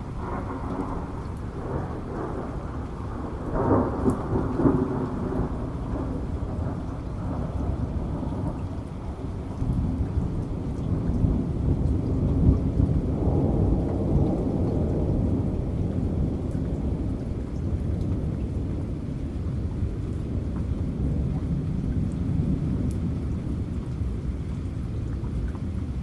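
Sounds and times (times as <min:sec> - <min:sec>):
low rumble of thunder: 0:00.0 - 0:26.0
steady rain: 0:00.0 - 0:26.0.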